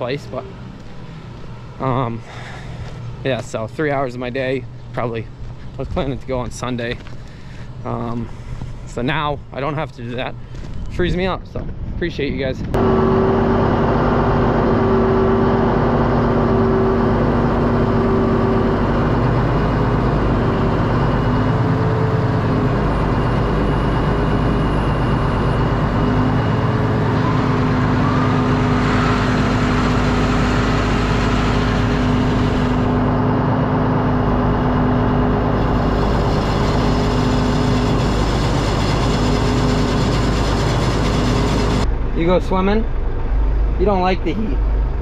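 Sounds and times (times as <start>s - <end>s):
truck engine driving: 0.0s - 45.0s.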